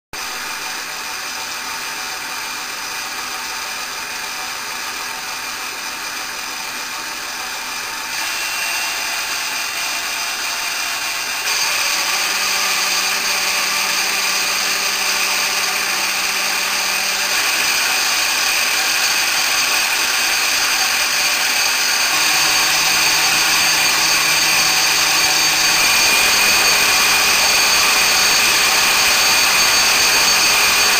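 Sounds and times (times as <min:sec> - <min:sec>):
wood lathe motor hum and whine: 0:00.2 - 0:30.9.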